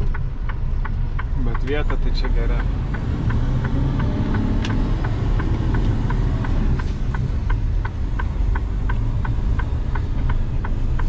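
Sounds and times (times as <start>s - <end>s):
diesel engine rumbling: 0.0s - 11.0s
turn signal clicking: 0.0s - 11.0s.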